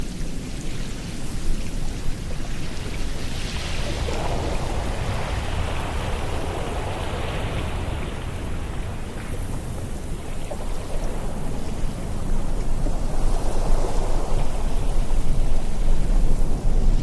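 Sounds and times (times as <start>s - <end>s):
wind buffeting microphone: 2.1s - 17.0s.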